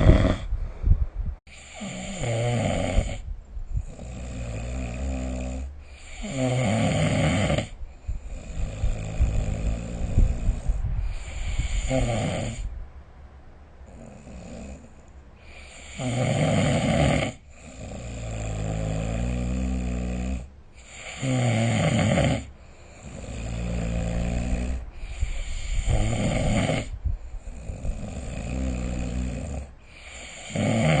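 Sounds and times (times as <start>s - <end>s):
person snoring: 0.0s - 0.5s, 1.5s - 12.7s, 13.9s - 31.0s.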